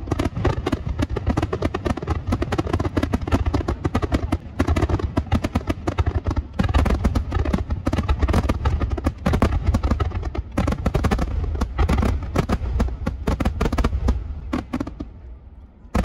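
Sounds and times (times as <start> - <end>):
fireworks bursts and crackles: 0.0 - 16.0.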